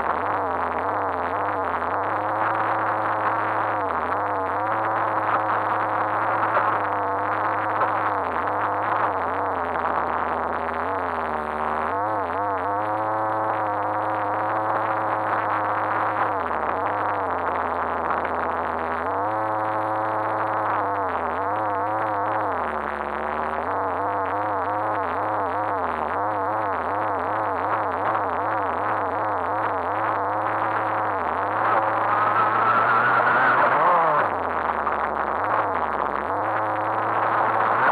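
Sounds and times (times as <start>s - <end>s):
muffled rc car motor whining: 0.0s - 37.9s.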